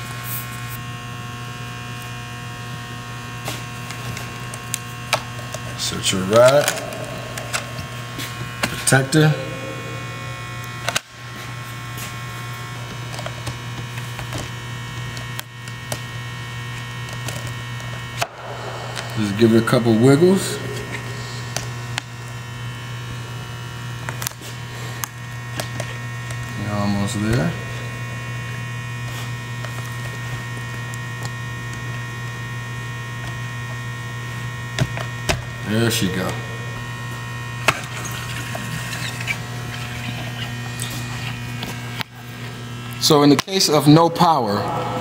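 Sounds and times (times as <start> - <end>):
electrical hum: 0.0 - 45.0.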